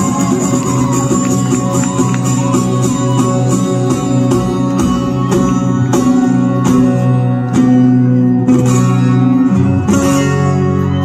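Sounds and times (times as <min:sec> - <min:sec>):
twelve-string acoustic guitar strumming: 0:00.0 - 0:11.0.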